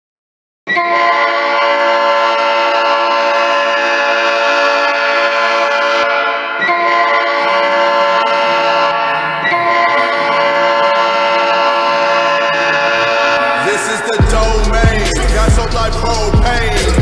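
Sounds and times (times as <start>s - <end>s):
hockey goal air horn: 0.7s - 16.9s.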